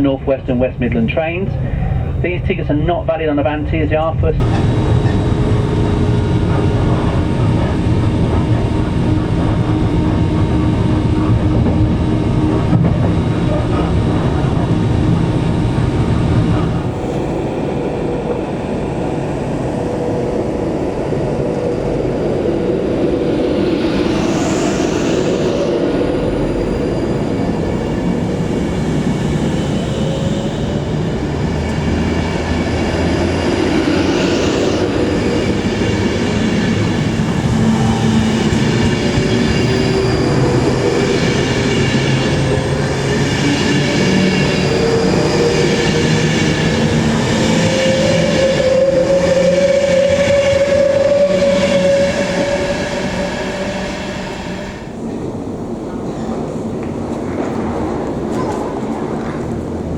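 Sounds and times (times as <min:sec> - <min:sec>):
train wheels rumbling on rails: 0:00.0 - 0:59.9
train motor whine: 0:04.3 - 0:55.0.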